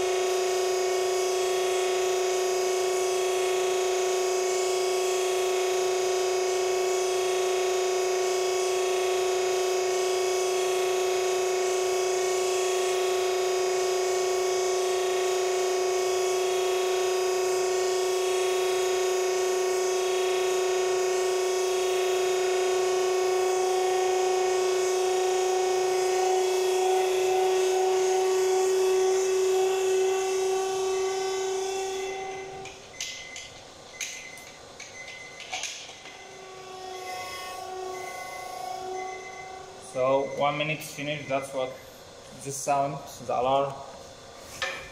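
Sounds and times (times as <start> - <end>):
timer alarm buzzing: 0.0 - 42.9.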